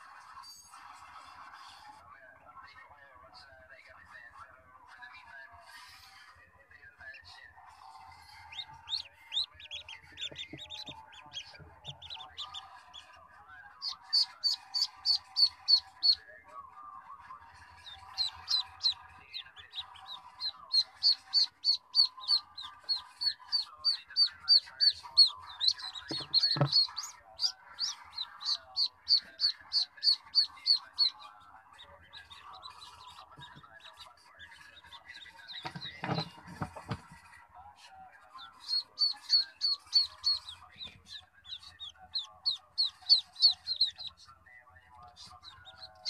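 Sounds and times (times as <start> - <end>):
ducklings peeping: 7.1 - 16.3, 17.2 - 37.3, 38.3 - 46.0.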